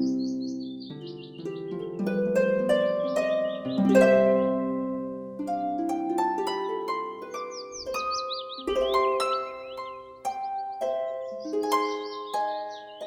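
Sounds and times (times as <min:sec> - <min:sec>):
songbird warbling: 0:00.0 - 0:04.8, 0:06.6 - 0:13.0
harp music: 0:00.0 - 0:13.0.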